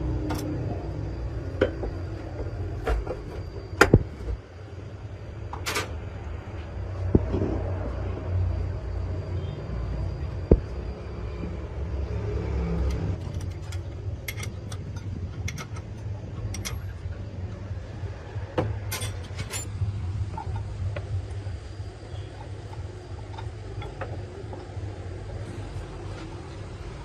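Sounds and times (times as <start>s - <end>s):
low mechanical rumble: 0.0s - 27.0s.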